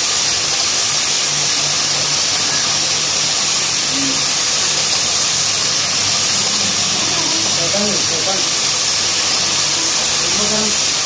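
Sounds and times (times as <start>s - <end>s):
yarn-winding machinery whirring: 0.0s - 11.0s.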